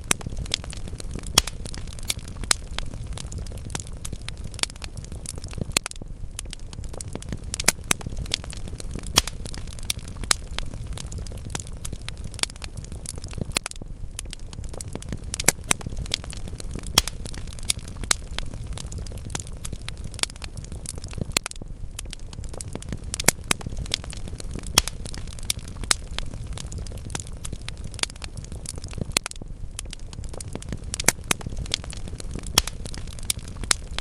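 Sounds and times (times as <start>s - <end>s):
burning logs crackling and popping: 0.0s - 34.0s.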